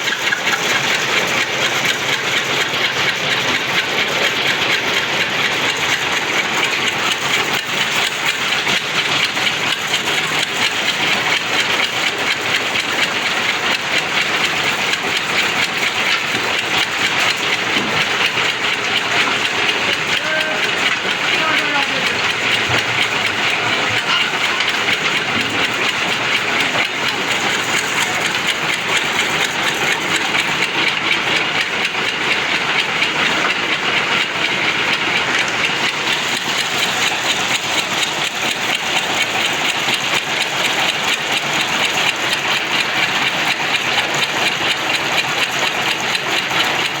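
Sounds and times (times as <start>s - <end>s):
construction machinery rattling: 0.0s - 47.0s.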